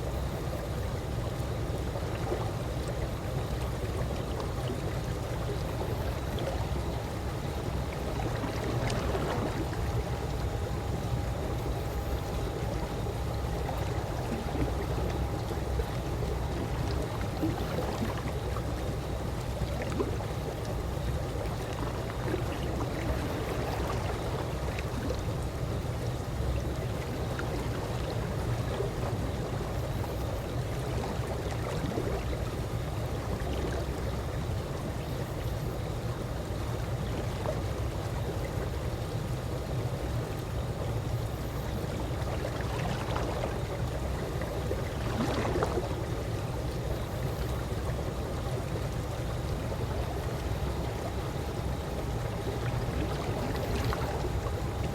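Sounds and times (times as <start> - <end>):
pool water lapping: 0.0 - 54.9.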